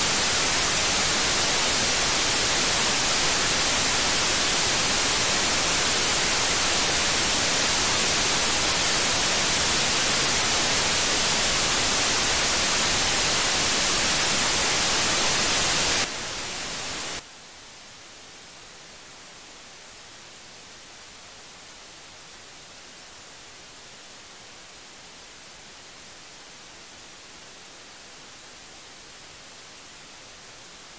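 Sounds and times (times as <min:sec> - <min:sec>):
radio static hiss: 0:00.0 - 0:30.9.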